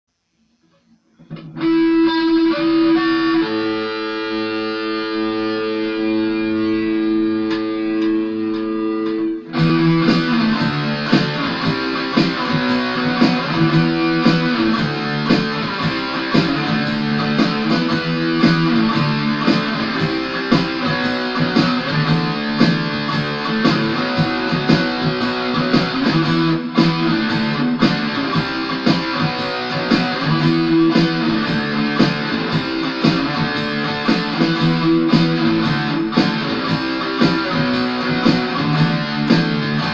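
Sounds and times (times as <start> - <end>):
electric guitar playing: 1.2 - 39.9.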